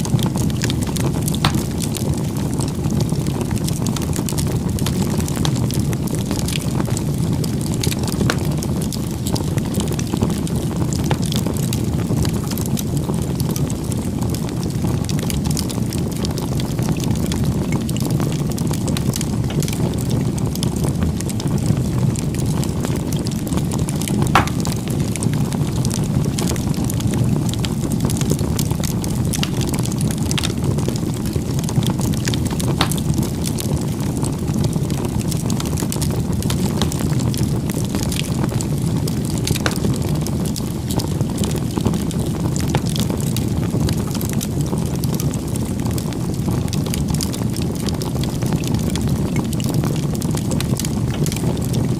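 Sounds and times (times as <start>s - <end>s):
bonfire rumble: 0.0s - 51.9s
fire crackling and popping: 0.0s - 51.9s.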